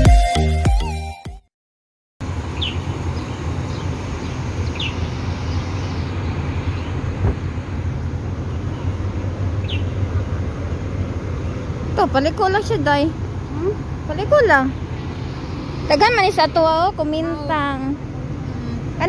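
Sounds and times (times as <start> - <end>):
city traffic rumble: 2.2 - 19.0.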